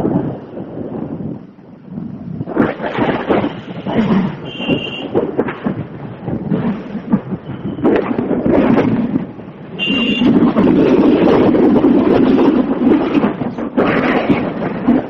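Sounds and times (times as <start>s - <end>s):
wind and road noise over phone: 0.0s - 15.0s.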